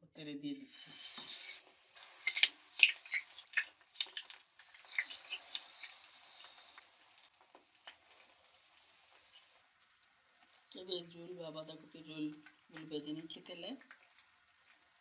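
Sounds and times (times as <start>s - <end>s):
batter frying in hot oil: 0.5s - 10.8s, 11.5s - 15.0s.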